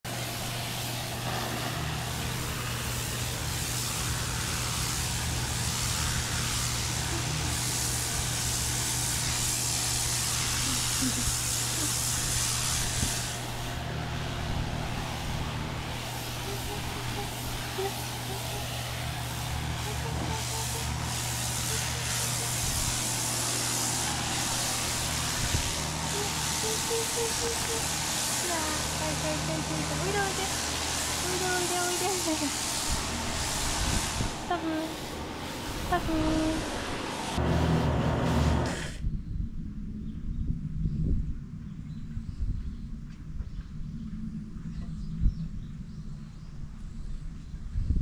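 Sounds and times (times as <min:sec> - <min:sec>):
pressure washer running: 0:00.0 - 0:39.0
water jet hissing: 0:00.0 - 0:39.0.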